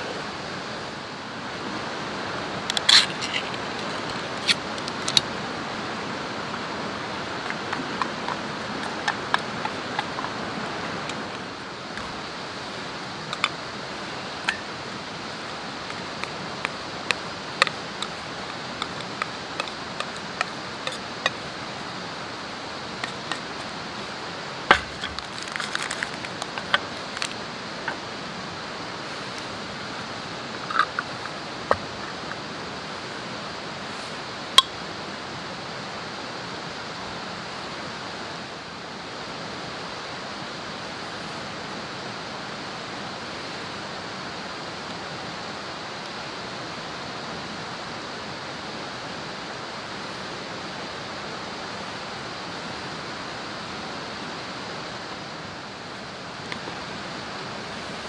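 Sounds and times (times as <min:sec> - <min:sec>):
steady rushing hiss: 0:00.0 - 0:58.0.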